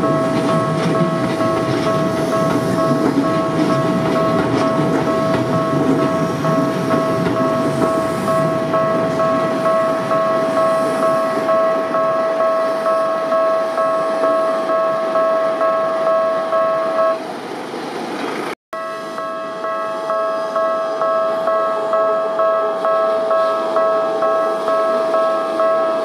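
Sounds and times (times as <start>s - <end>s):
level crossing bell ringing: 0.0s - 17.2s, 18.8s - 26.0s
train rumbling past: 0.0s - 26.0s.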